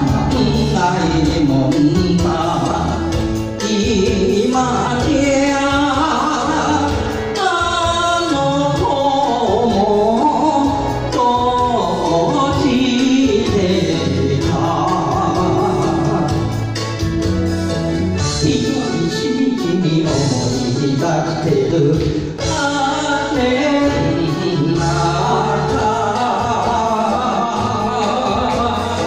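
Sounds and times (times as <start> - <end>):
man singing into microphone: 0.0 - 16.8, 18.2 - 29.0
backing music with steady beat: 0.0 - 29.0.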